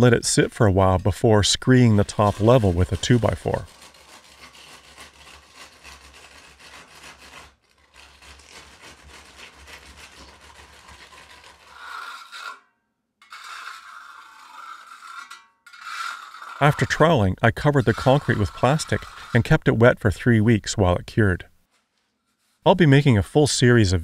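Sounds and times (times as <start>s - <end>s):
hand trowel scraping concrete: 0.0s - 20.8s
board scraping wet concrete: 0.3s - 12.6s, 13.2s - 20.8s.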